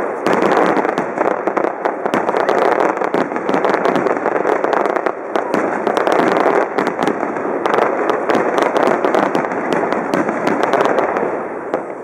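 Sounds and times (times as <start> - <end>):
firework bangs and crackles: 0.0 - 12.0.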